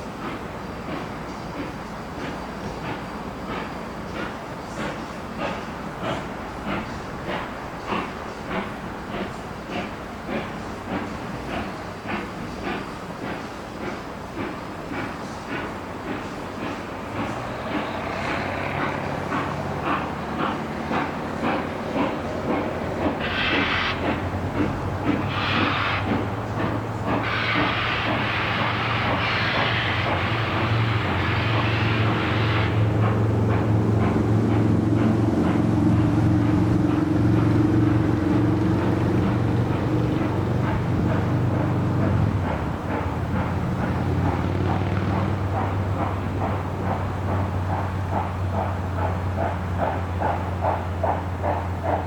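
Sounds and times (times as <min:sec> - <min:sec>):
steam hissing in long bursts: 0:00.0 - 0:52.0
steam locomotive moving slowly: 0:00.0 - 0:52.0.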